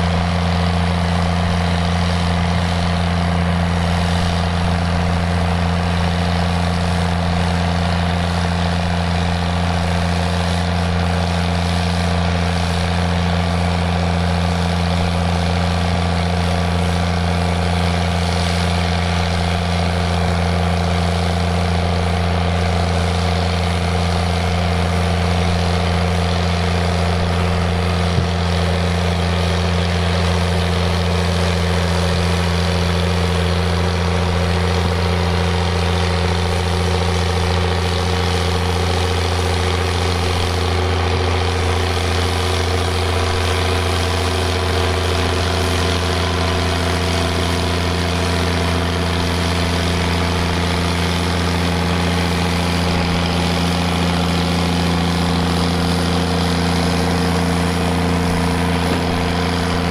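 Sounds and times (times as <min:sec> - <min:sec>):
diesel tractor engine droning: 0:00.0 - 0:59.9.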